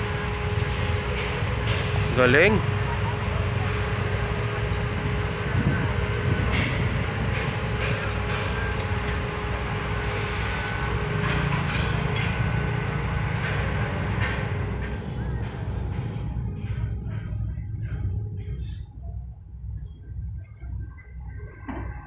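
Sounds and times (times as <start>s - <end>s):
diesel machinery engine rumble: 0.0s - 22.0s
steady whine: 0.0s - 22.0s.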